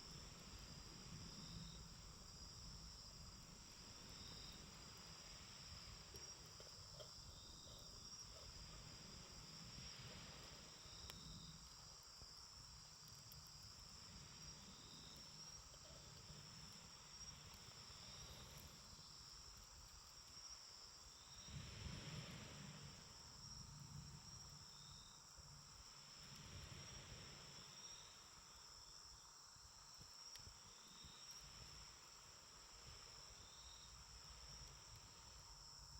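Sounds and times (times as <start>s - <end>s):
crickets trilling: 0.0s - 35.9s.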